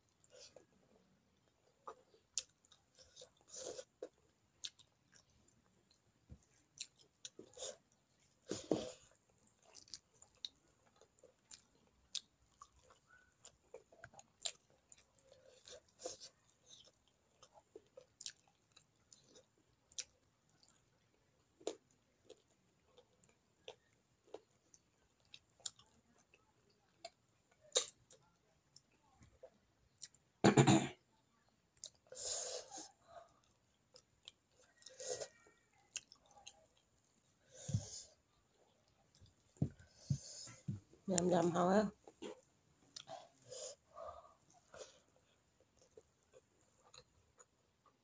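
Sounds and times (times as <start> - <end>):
chewing and mouth smacks: 1.4 - 30.2, 32.8 - 40.8, 44.4 - 48.0.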